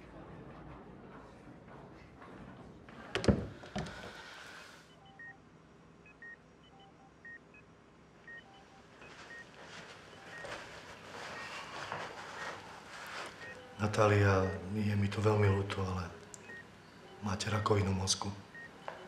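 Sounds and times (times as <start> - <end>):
patient monitor beeping: 3.2 - 19.0.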